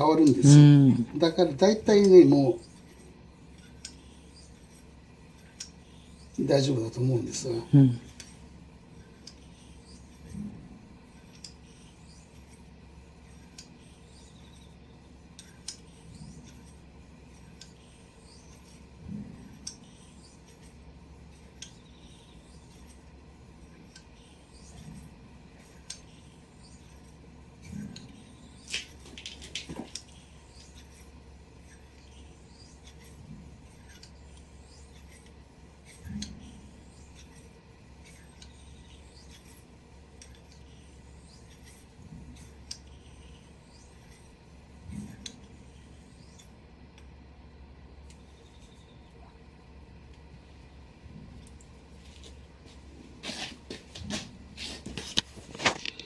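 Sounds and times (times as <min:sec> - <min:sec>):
razor rubbing on whetstone: 0:01.2 - 0:46.6.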